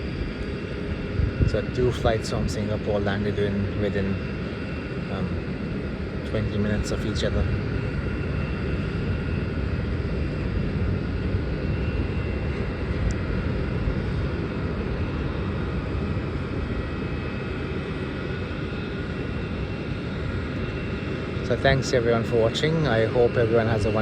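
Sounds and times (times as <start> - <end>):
faint high whine: 0.0 - 24.0
jet engines rumbling: 0.0 - 24.0.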